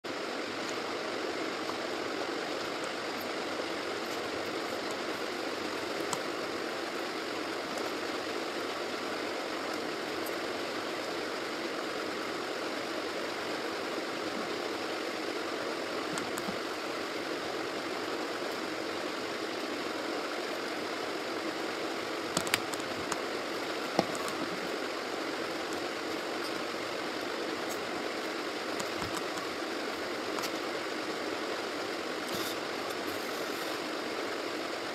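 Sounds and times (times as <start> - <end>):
steady background hiss: 0.1 - 34.9.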